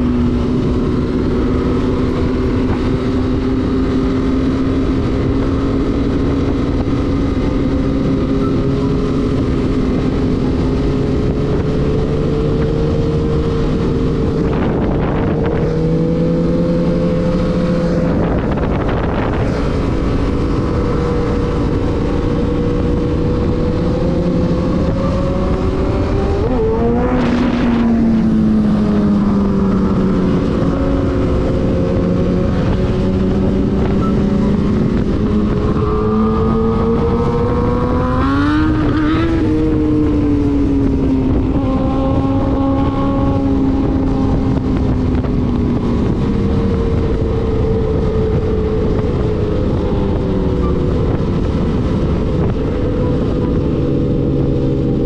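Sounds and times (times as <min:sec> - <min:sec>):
motorcycle engine cruising: 0:00.0 - 0:55.0
wind rushing: 0:08.9 - 0:55.0.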